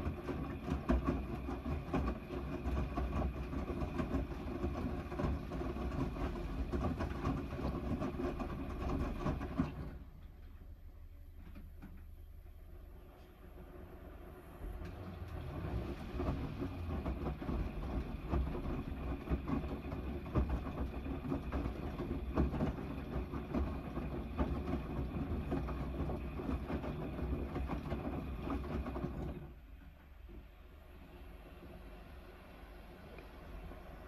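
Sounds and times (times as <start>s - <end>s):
water and laundry sloshing: 0.0s - 12.1s, 12.7s - 34.0s
washing machine drum motor: 0.0s - 34.0s.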